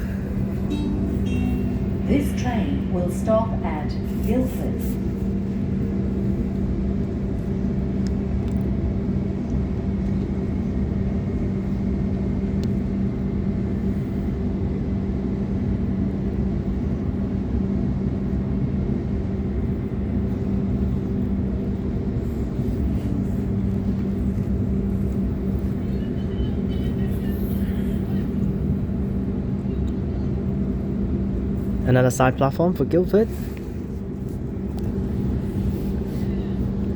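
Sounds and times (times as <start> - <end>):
constant low hum: 0.0 - 36.9
train rumble: 0.0 - 36.9.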